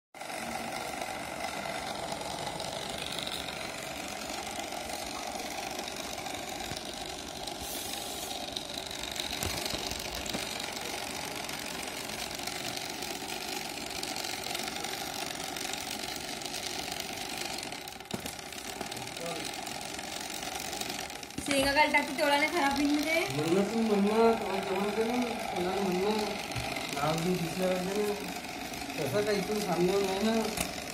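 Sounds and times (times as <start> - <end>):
small electric motor whirring: 0.2 - 30.9.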